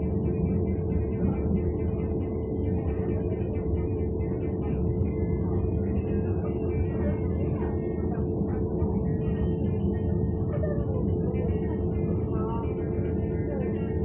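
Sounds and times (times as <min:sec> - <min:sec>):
constant cabin hum: 0:00.0 - 0:14.0
train wheels rumbling on track: 0:00.0 - 0:14.0.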